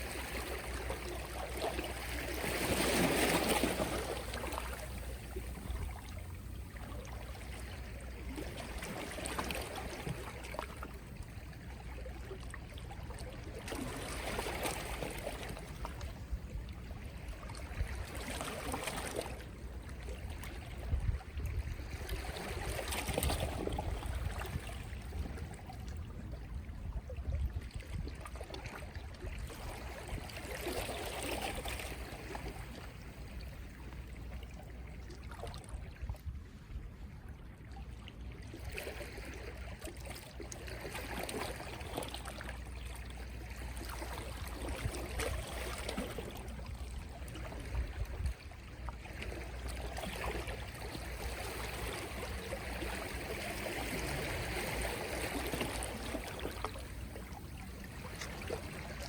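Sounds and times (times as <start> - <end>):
sea waves lapping ashore: 0.0 - 59.0.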